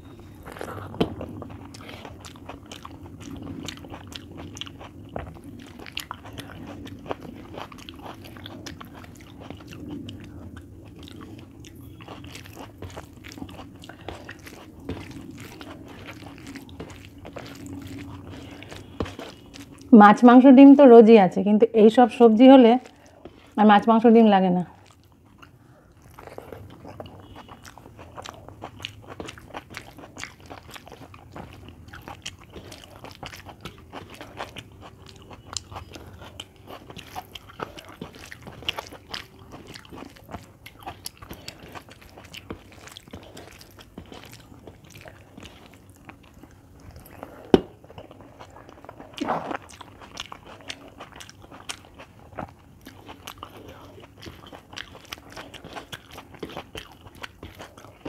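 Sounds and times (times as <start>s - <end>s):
chewing and crunching food: 0.0s - 21.0s, 21.7s - 58.0s.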